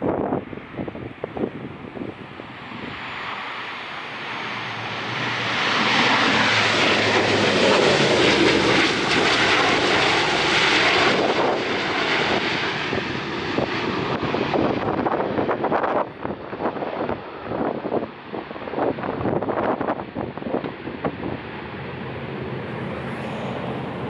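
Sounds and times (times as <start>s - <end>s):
airliner engine noise: 0.0s - 24.0s
wind on microphone: 0.0s - 24.0s.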